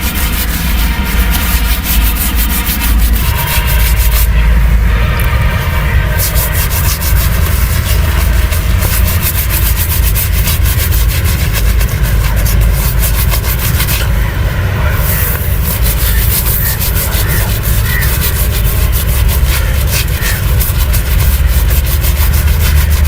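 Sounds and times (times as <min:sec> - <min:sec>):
razor scraping through hair: 0:00.0 - 0:04.3, 0:06.2 - 0:14.1, 0:15.0 - 0:23.0
steady low rumble: 0:00.0 - 0:23.0.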